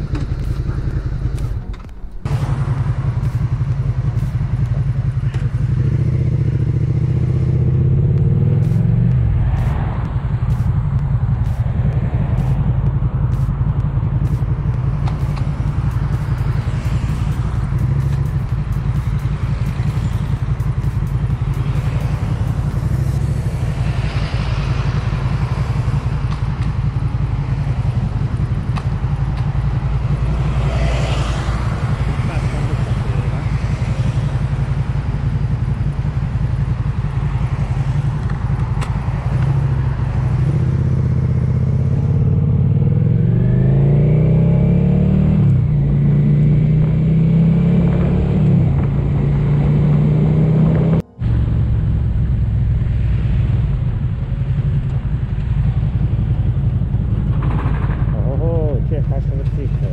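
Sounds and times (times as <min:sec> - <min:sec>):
motorcycle engine revving: 0:00.0 - 0:59.9
wind and road noise: 0:00.0 - 0:59.9.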